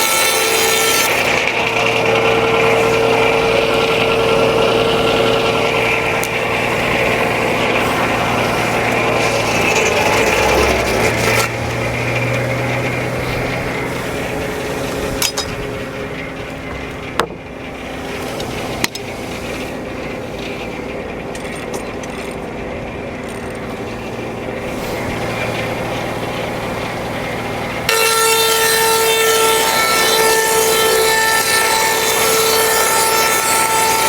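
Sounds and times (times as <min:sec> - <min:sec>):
circular saw cutting log: 0:00.0 - 0:34.0
engine droning: 0:00.0 - 0:34.0.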